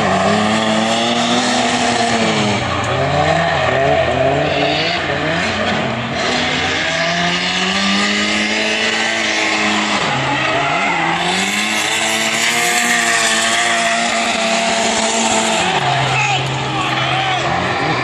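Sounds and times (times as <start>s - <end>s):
car engine at high revs: 0.0s - 18.0s
tyres skidding: 0.0s - 18.0s.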